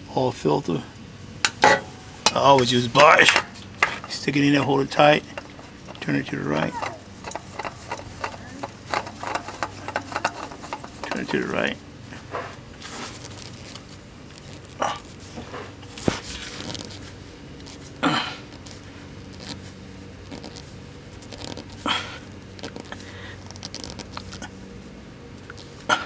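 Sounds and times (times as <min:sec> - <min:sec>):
low steady background noise: 0:00.0 - 0:26.0
oil filter scraping and knocking: 0:01.4 - 0:21.8, 0:22.6 - 0:24.5.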